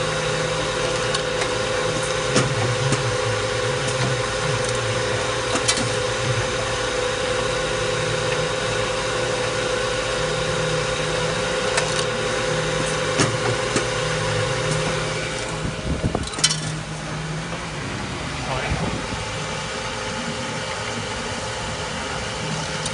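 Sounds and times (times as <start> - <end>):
machine motor and grinding hum: 0.0 - 22.9
rollers droning: 0.0 - 22.9.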